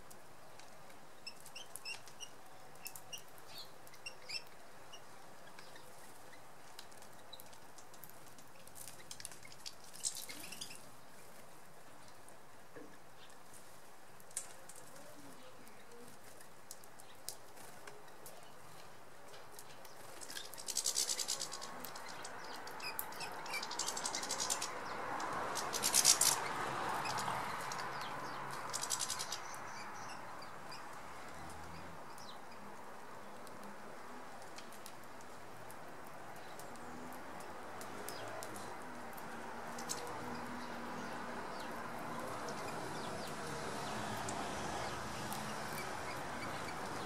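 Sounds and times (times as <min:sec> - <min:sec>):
small birds calling: 0:00.6 - 0:11.2, 0:14.2 - 0:33.8, 0:36.3 - 0:47.0.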